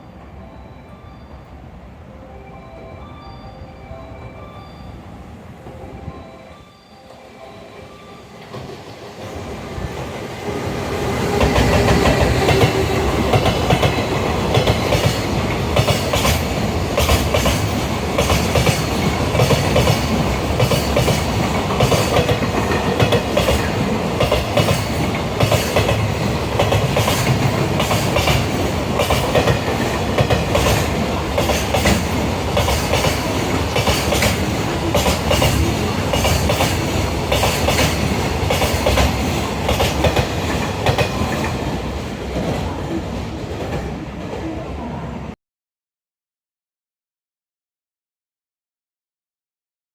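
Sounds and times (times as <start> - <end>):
train passing: 0.0 - 45.4.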